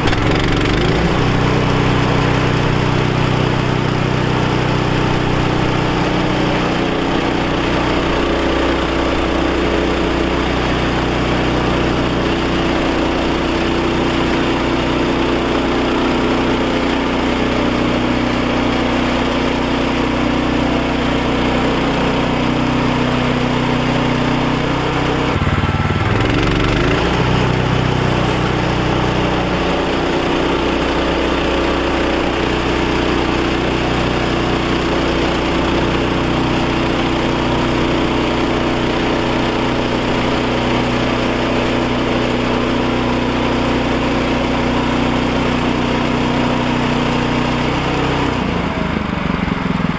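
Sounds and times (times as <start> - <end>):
bandsaw mill gasoline engine running: 0.0 - 49.9.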